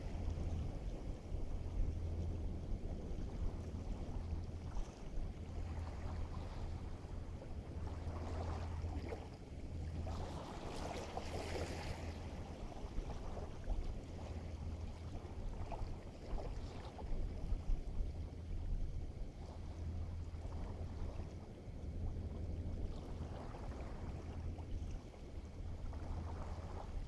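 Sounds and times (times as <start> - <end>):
steady low hum: 0.0 - 27.0
water: 0.0 - 27.0
wind: 0.0 - 27.0.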